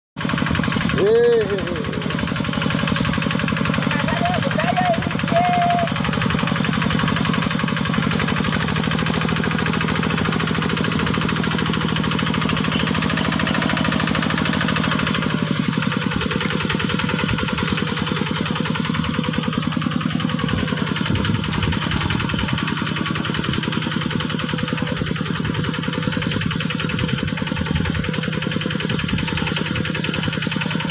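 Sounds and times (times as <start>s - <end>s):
diesel engine clattering: 0.2s - 30.9s.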